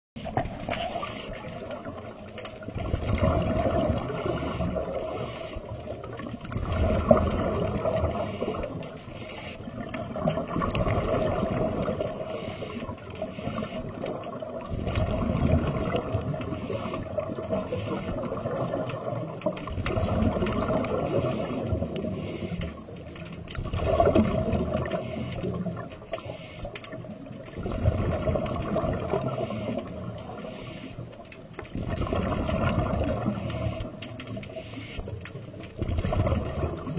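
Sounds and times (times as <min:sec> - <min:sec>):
small sea waves washing: 0:00.2 - 0:36.9.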